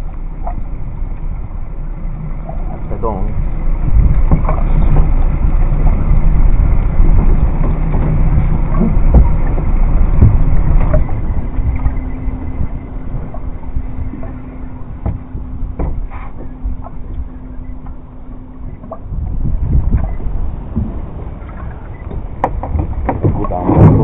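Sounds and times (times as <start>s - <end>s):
outboard motor running: 0.0s - 24.0s
wind rumbling on microphone: 0.0s - 24.0s.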